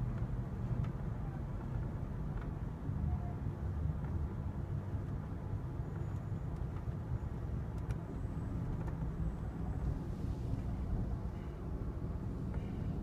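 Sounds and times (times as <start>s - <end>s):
train car rumbling on rails: 0.0s - 13.0s.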